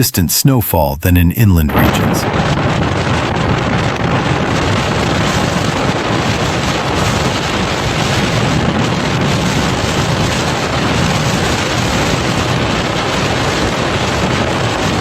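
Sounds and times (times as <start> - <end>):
wind buffeting microphone: 1.8 - 15.0.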